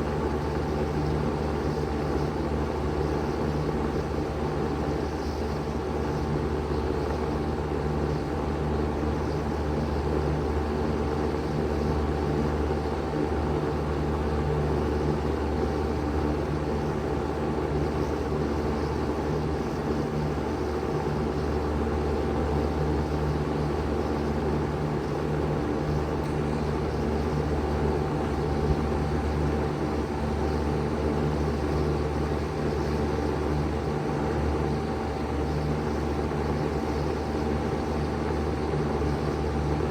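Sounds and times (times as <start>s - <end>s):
heat pump humming: 0.0s - 39.9s.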